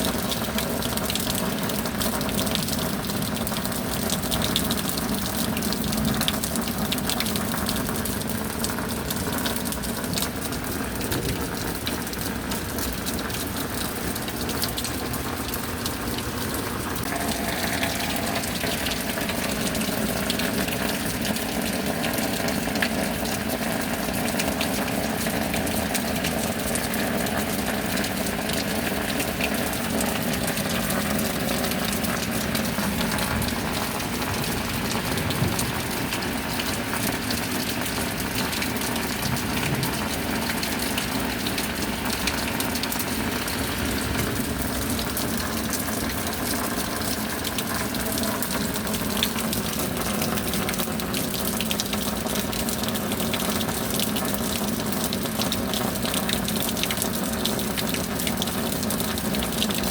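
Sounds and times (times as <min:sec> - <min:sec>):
steady rain: 0:00.0 - 0:59.9
water gushing and running: 0:00.0 - 0:59.9.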